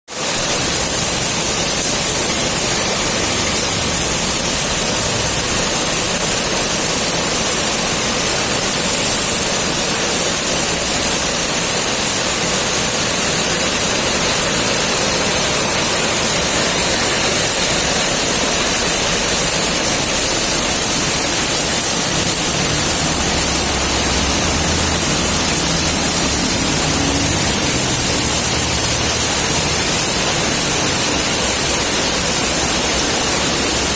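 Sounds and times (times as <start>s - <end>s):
rain pouring: 0.1s - 33.9s.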